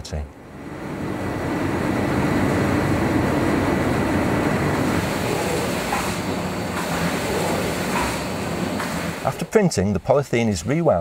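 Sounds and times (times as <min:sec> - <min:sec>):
printing press rumble: 0:00.0 - 0:09.6.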